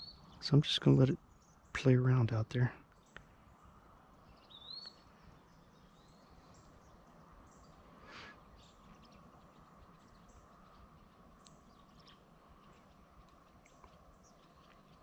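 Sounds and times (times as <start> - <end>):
faint bird calls: 0.0 - 15.0.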